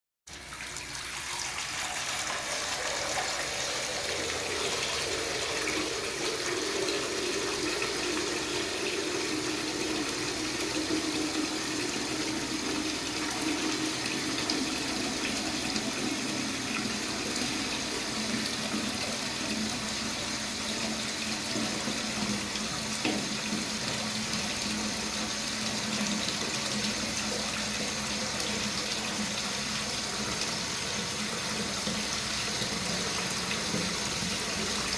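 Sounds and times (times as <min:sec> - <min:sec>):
tap water splashing into bathtub: 0:00.3 - 0:34.9.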